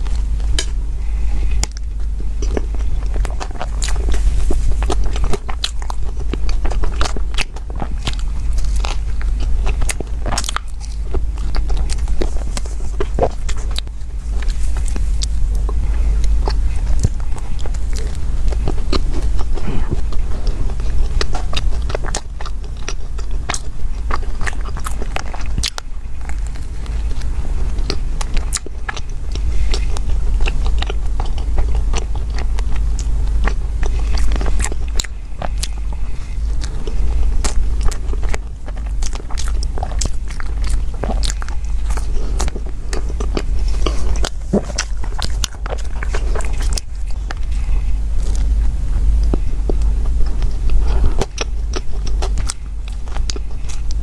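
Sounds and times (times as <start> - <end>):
biting and chewing crunchy bread: 0.0 - 54.0
low hum: 0.0 - 54.0.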